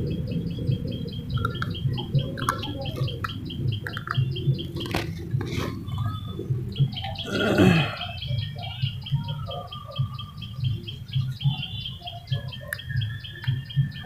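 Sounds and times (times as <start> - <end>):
low background rumble: 0.0 - 12.0
bird chirping: 0.0 - 14.0.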